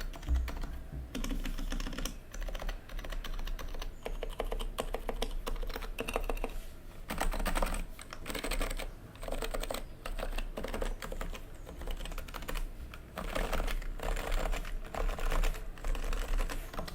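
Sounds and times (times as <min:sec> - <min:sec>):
keyboard typing: 0:00.0 - 0:16.9.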